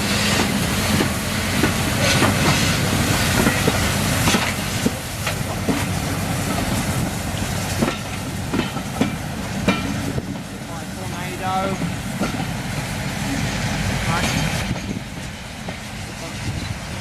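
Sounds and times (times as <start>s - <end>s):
train rumble: 0.0s - 17.0s
train wheels clicking over rail joints: 0.0s - 17.0s.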